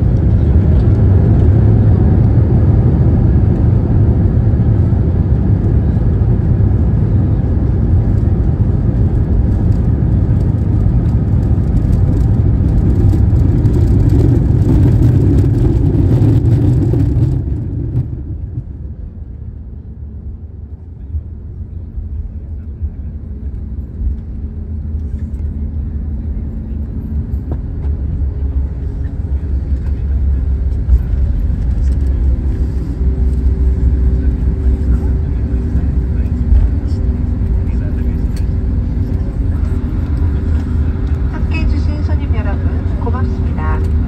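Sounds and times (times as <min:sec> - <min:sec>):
airliner cabin noise on runway: 0:00.0 - 0:44.0.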